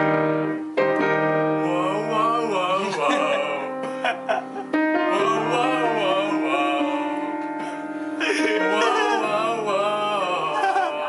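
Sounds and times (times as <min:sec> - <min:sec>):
piano accompaniment: 0:00.0 - 0:11.0
man singing: 0:01.6 - 0:11.0.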